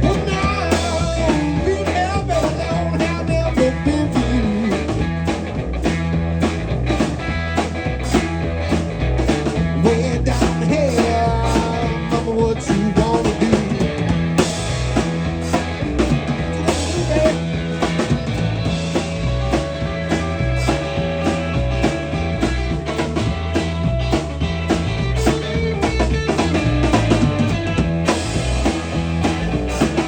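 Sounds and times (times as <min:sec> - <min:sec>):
blues band playing: 0:00.0 - 0:30.0.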